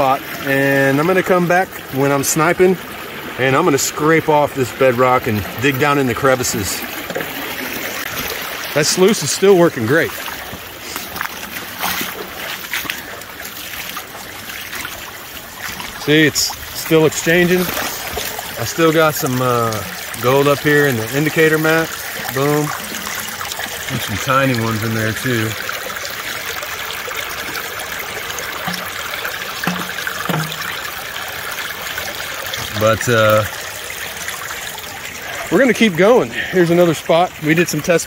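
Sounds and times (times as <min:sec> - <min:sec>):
light water splashing: 0:00.0 - 0:38.0
water rushing through sluice box: 0:00.0 - 0:38.0.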